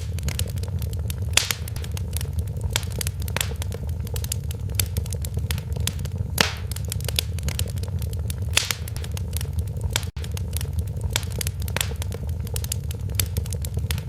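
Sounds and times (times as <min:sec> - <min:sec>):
steady low rumble: 0:00.0 - 0:14.0
wood fire crackling and popping: 0:00.0 - 0:14.0.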